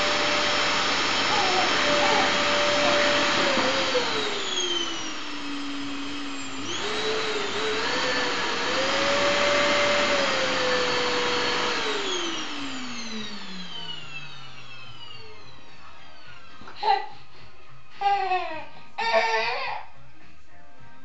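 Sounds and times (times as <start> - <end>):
vacuum cleaner motor whine: 0.0 - 17.9.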